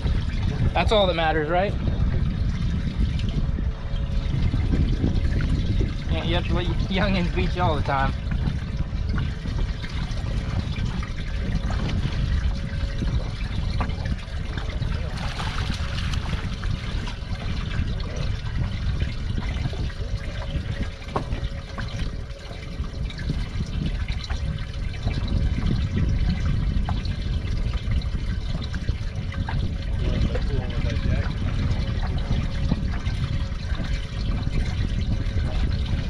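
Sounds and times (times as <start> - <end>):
water lapping against boat hull: 0.0 - 36.0
wind rumbling on microphone: 0.0 - 36.0.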